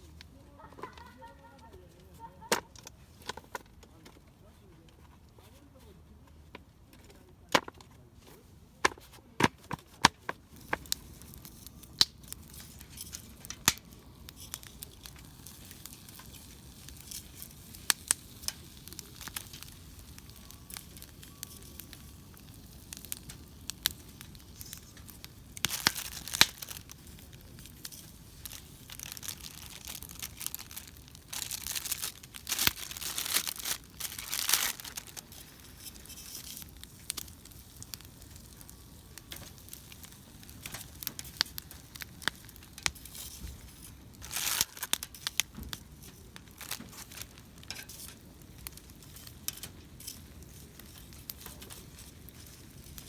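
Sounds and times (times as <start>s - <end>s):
packaging crinkling and tearing: 9.6s - 53.0s.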